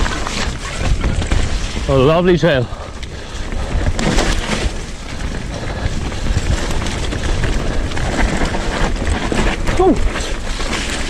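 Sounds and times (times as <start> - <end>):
bike knocking and rattling: 0.0 - 11.0
bike tyre rush: 0.0 - 11.0.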